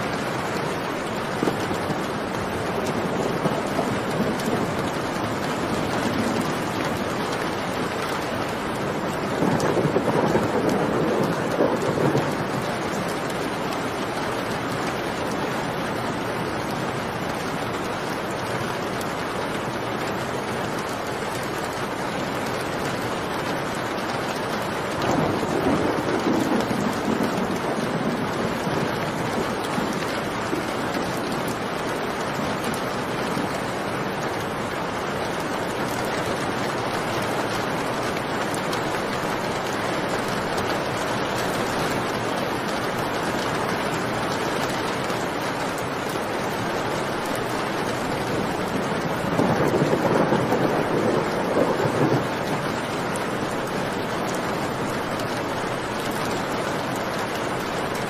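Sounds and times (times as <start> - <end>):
thunder rumbling: 0.0 - 15.7, 24.4 - 45.9, 47.0 - 56.6
steady rain: 0.0 - 58.0.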